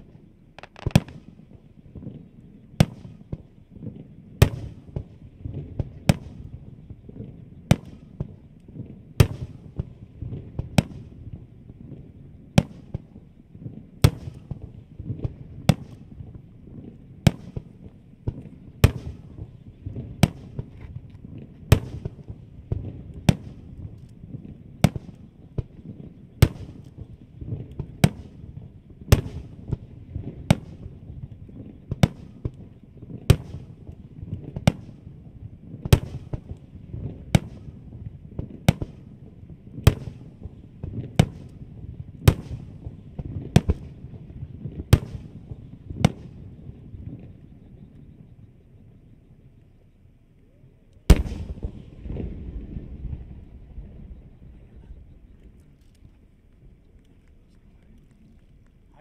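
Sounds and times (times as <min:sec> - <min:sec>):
fireworks bursting: 0:00.4 - 0:11.2, 0:12.6 - 0:48.3, 0:51.1 - 0:59.0.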